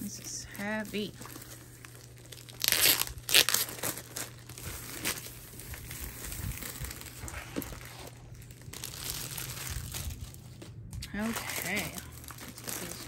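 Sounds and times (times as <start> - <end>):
plastic shrink wrap crinkling: 0.0 - 13.0.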